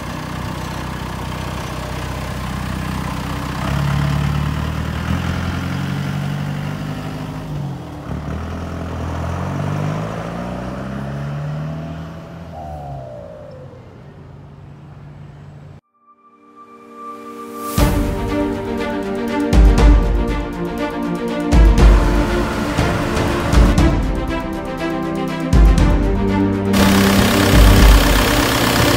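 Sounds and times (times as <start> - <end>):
diesel engine accelerating: 0.0 - 15.8, 17.8 - 28.9.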